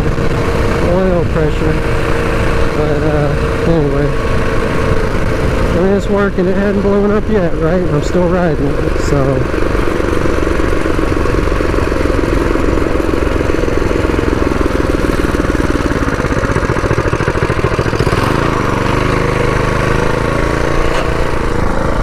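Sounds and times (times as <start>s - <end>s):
mini bike engine running: 0.0s - 22.0s.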